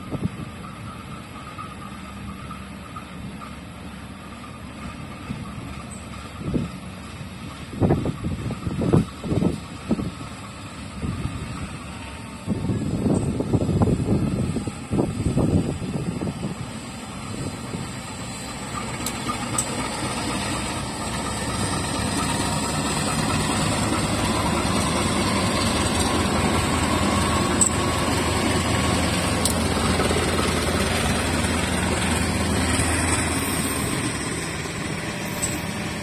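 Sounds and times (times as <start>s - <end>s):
locomotive engine passing: 0.0s - 36.0s.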